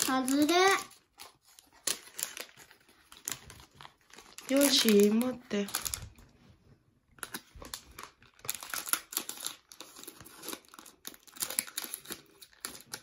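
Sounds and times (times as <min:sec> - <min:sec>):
scissors cutting plastic bag: 0:00.0 - 0:06.2, 0:07.2 - 0:13.0
plastic wrapper crinkling: 0:00.0 - 0:06.5, 0:07.1 - 0:13.0.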